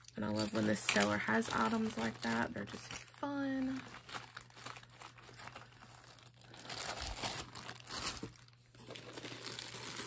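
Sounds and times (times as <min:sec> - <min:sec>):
plastic bag crinkling: 0:00.2 - 0:10.0.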